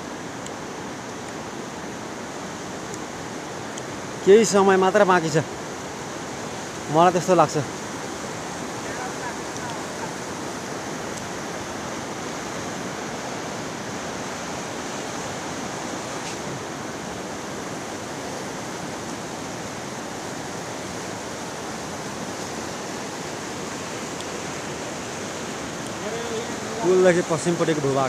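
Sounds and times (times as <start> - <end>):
river rushing in flood: 0.0 - 28.0.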